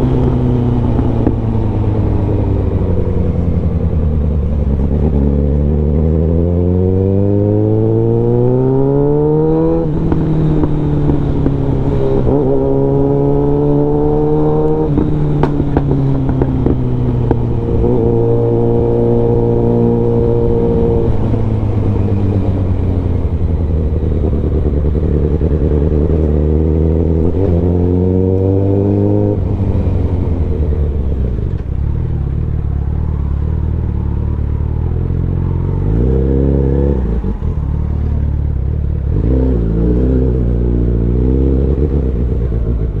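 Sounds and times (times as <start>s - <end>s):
motorcycle engine revving through gears: 0.0s - 43.0s.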